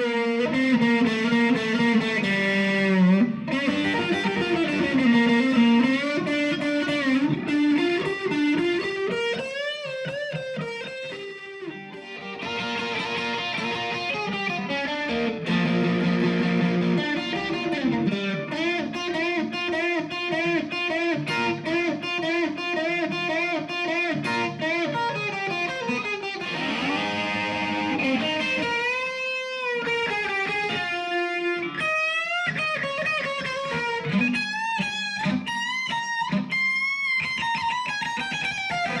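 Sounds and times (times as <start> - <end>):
electric guitar melody: 0.0 - 39.0.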